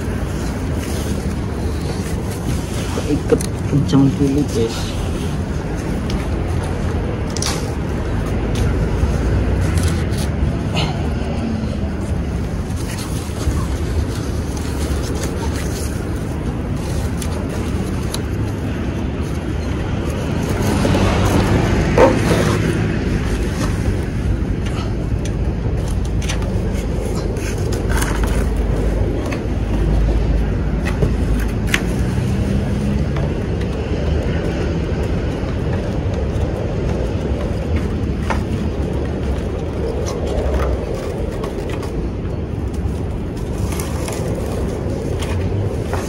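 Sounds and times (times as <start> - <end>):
cord clicks and rustles: 0.0 - 46.0
road traffic rumble: 0.0 - 46.0.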